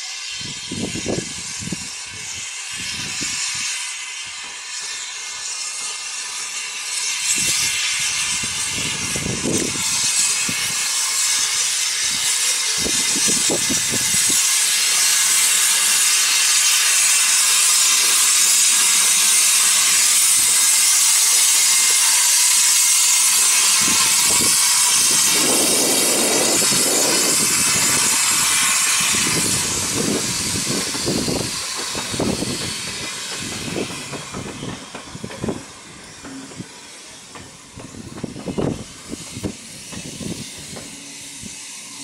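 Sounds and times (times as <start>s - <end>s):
steam locomotive steam hiss: 0.0s - 42.0s
train wheels knocking on rail joints: 5.8s - 41.2s.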